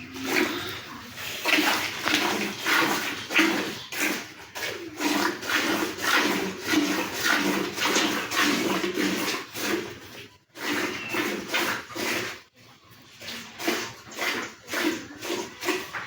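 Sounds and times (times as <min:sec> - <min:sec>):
milk squirting into a pail: 0:00.0 - 0:16.0.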